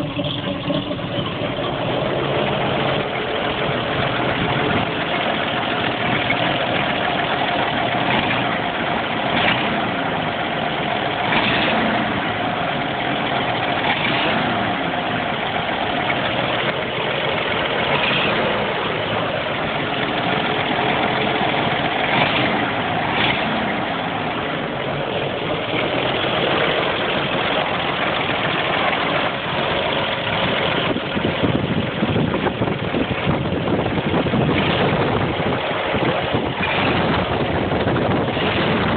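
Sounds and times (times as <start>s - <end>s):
truck engine idling with knock: 0.0s - 38.9s.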